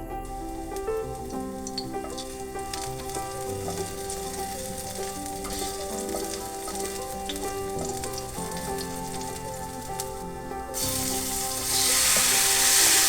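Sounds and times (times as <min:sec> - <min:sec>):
background music: 0:00.0 - 0:13.0
food sizzling in a pan: 0:00.2 - 0:13.0.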